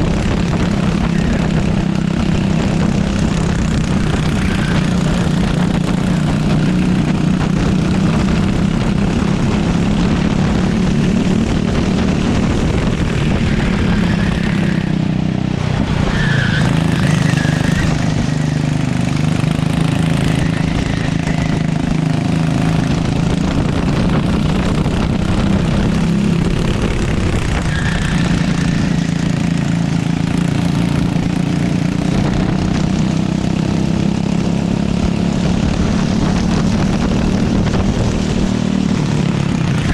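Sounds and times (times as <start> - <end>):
rushing noise: 0.0 - 32.6
kart engine running hard: 0.0 - 39.9.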